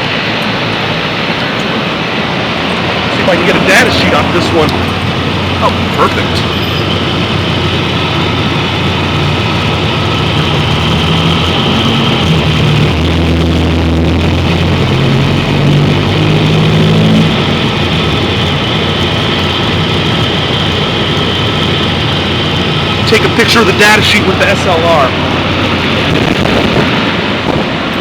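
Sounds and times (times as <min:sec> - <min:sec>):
compressor hum: 0:00.0 - 0:28.0
condenser fans rushing: 0:00.0 - 0:28.0.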